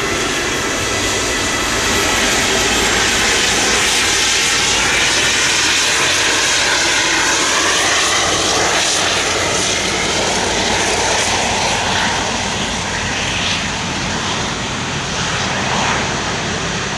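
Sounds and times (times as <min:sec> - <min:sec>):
airliner engines: 0:00.0 - 0:16.9.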